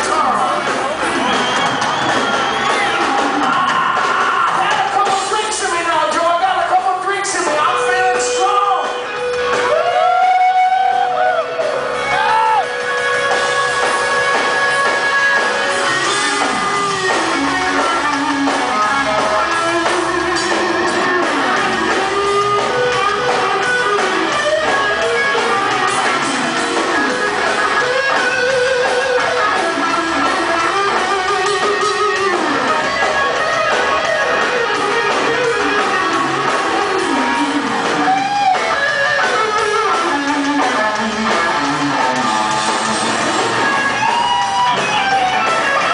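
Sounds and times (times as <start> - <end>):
live rock band playing: 0.0 - 45.9
electric guitar bending notes: 7.6 - 45.9.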